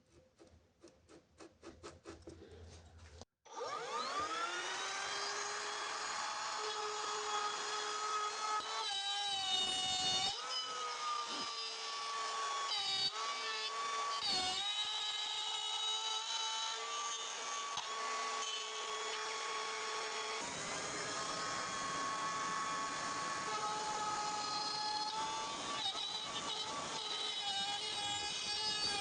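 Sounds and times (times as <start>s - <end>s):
power tool motor whining: 3.5s - 29.0s.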